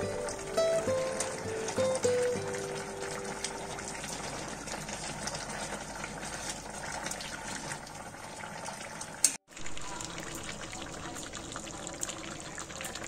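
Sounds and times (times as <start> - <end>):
curry simmering and bubbling: 0.0 - 13.0.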